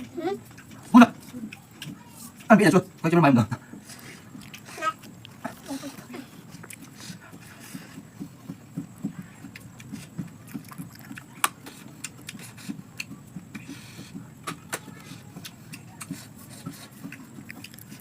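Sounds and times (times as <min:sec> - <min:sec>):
chewing with small clicks: 0:00.4 - 0:02.6, 0:03.7 - 0:18.0.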